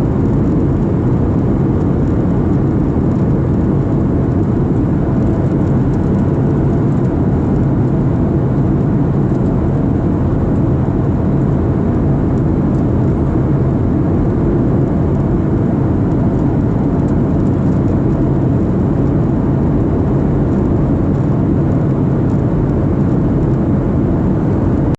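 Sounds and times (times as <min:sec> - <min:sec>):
jet airliner cabin drone: 0:00.0 - 0:24.9
low hum: 0:00.0 - 0:24.9.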